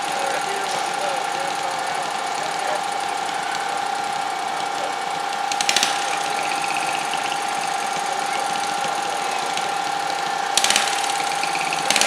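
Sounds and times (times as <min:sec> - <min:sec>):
garden tractor engine idling: 0:00.0 - 0:12.0
harsh burst of noise: 0:00.0 - 0:12.0.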